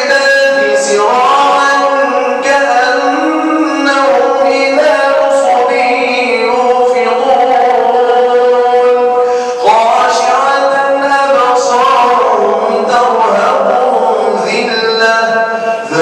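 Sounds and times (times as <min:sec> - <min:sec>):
man chanting through a microphone: 0:00.0 - 0:16.0.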